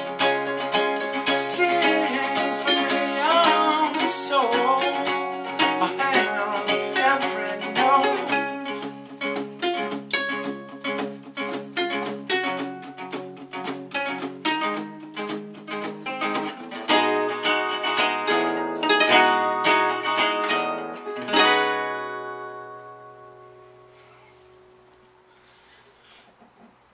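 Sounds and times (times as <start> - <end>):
guitar and ukulele playing: 0.0 - 25.5.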